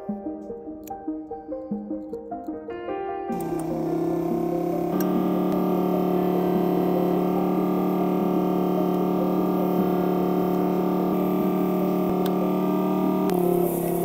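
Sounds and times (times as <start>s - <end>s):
held chord background music: 0.0s - 14.0s.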